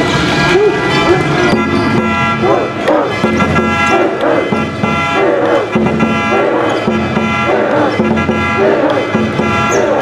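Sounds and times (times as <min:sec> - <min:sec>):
band playing sustained notes: 0:00.0 - 0:10.0
crowd chanting: 0:00.4 - 0:10.0.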